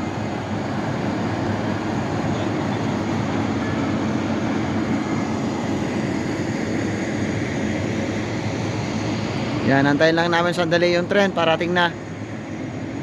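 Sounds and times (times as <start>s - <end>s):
low rumble of background noise: 0.0s - 13.0s.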